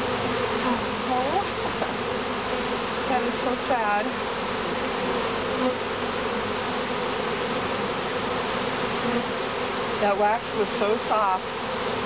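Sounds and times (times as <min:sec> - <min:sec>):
swarm of bees buzzing: 0:00.0 - 0:12.0.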